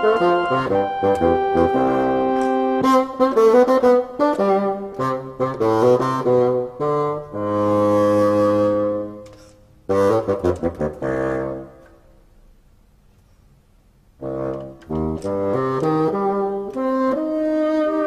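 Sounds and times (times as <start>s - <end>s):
bassoon melody: 0.0s - 11.9s, 14.2s - 18.0s.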